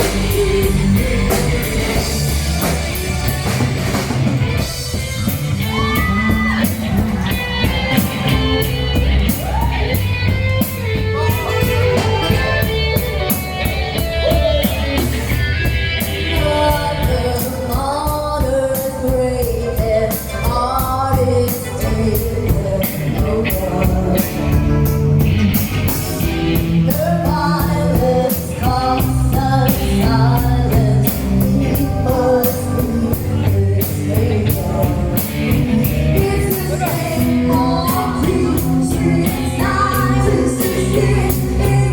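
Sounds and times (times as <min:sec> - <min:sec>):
drum beat with cymbals: 0:00.0 - 0:41.9
guitar: 0:00.0 - 0:41.9
lead singer: 0:00.0 - 0:41.9.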